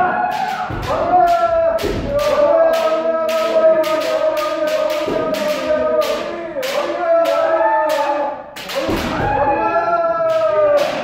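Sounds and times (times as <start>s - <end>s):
people shouting long cries: 0.0s - 11.0s.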